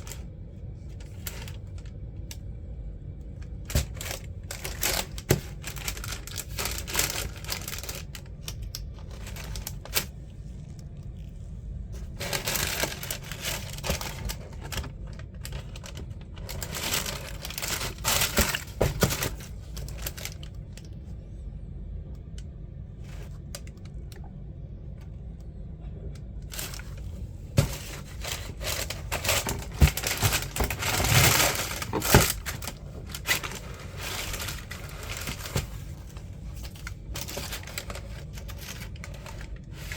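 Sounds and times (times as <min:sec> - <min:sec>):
paper rustling and crinkling: 0:00.0 - 0:02.0, 0:03.4 - 0:20.9, 0:26.4 - 0:39.9.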